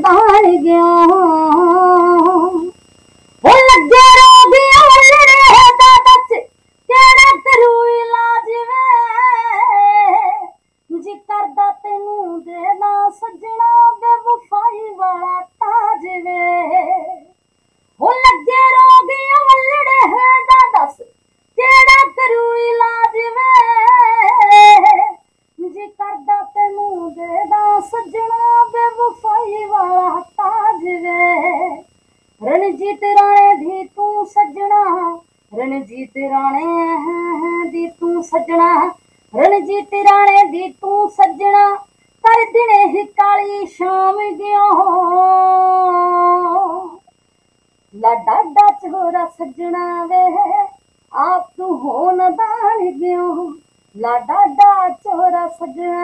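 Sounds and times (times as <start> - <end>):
woman singing unaccompanied: 0.0 - 2.8, 3.4 - 17.4, 18.0 - 47.2, 47.8 - 56.0.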